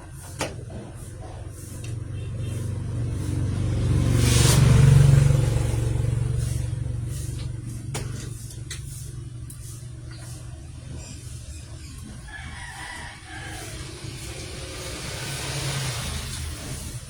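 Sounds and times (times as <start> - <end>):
vehicle driving past: 1.5 - 17.0.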